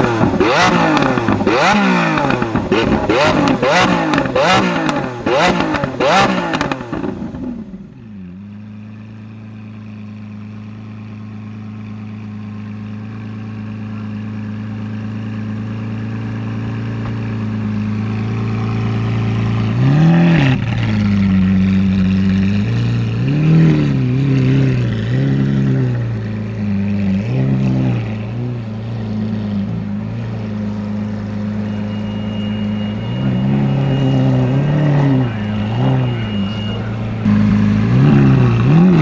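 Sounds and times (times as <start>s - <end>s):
car engine idling: 0.0s - 39.0s
engine throttle blips: 0.0s - 39.0s.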